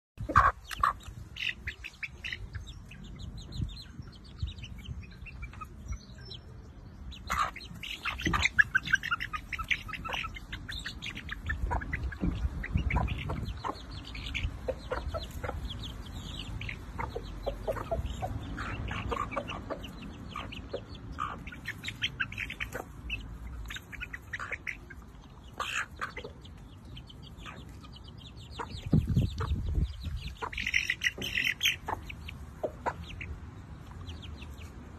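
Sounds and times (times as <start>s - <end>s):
chickens clucking: 0.2s - 34.9s
chicks peeping: 0.2s - 34.9s.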